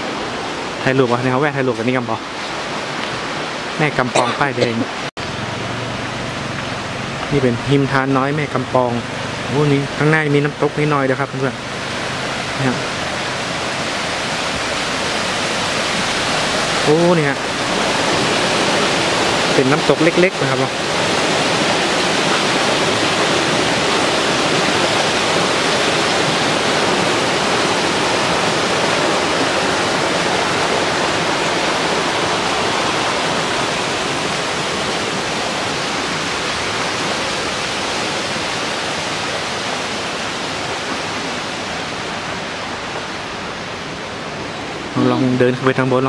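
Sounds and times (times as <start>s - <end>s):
stream rushing over boulders: 0.0s - 46.0s.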